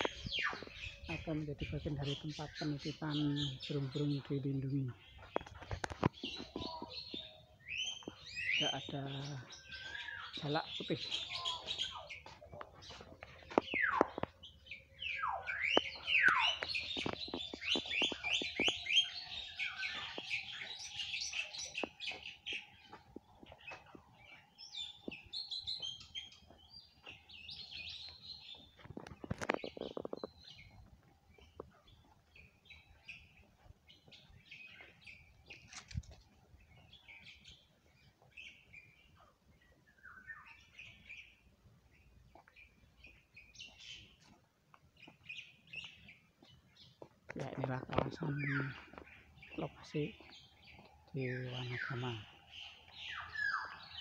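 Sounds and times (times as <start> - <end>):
birds chirping and whistling: 0.0 - 44.4, 45.0 - 54.0.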